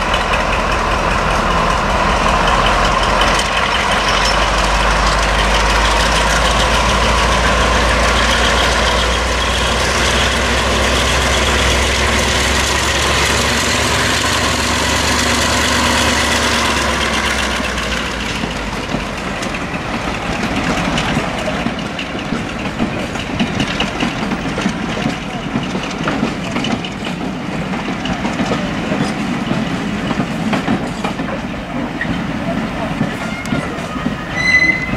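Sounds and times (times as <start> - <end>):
coaches clattering on track: 0.0 - 14.5, 15.2 - 34.9
diesel locomotive engine under load: 0.0 - 34.9.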